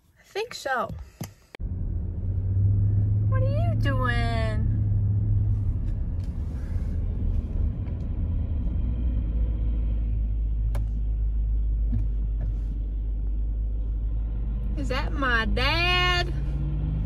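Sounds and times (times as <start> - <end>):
car engine and tyres rumble: 0.0 - 17.0.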